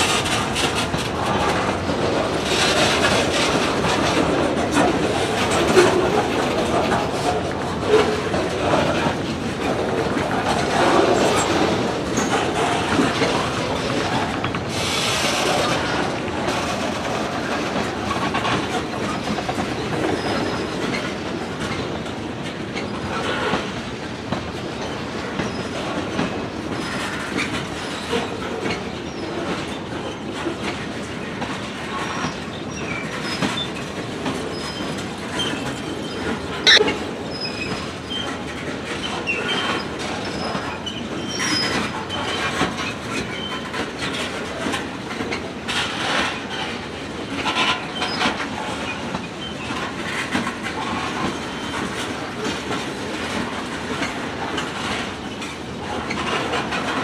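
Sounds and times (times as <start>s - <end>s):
wheels clicking over rail joints: 0.0s - 57.0s.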